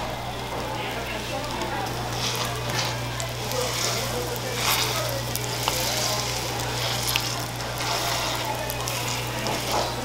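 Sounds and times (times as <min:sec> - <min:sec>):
dough sizzling on hot plate: 0:00.0 - 0:10.0.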